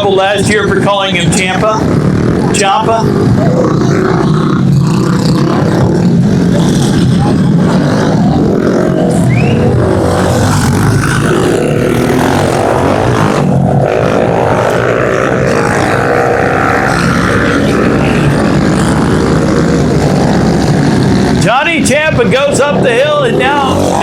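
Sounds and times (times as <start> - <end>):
pit bike engines revving: 0.0 - 24.0.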